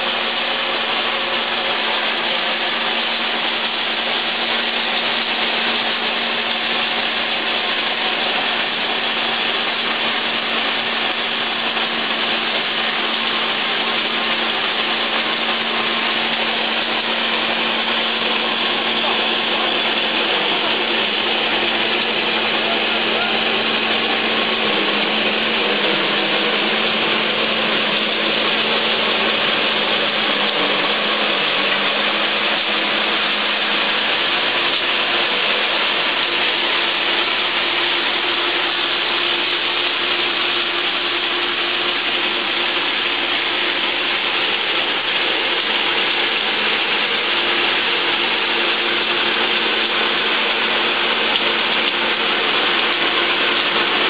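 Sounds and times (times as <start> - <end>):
corn husking machine clattering: 0.0 - 54.0.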